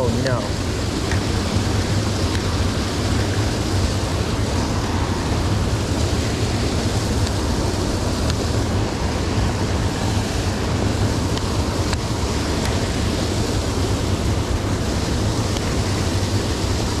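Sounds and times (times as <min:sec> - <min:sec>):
water pouring over weir: 0:00.0 - 0:17.0.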